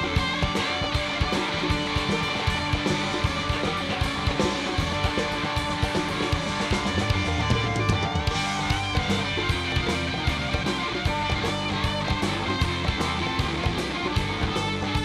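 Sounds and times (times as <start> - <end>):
bass guitar: 0.0 - 15.0
drum kit beat: 0.0 - 15.0
electric guitars: 0.0 - 15.0.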